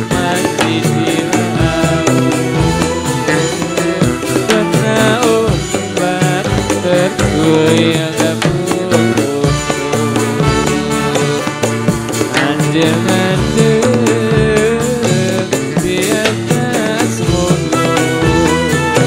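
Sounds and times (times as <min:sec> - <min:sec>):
drums beating steady rhythm: 0:00.0 - 0:19.0.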